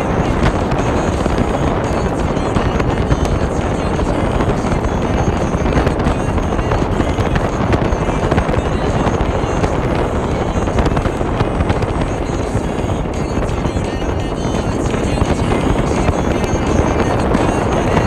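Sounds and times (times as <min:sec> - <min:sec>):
motorcycle running: 0:00.0 - 0:18.0
wind buffeting microphone: 0:00.0 - 0:18.0.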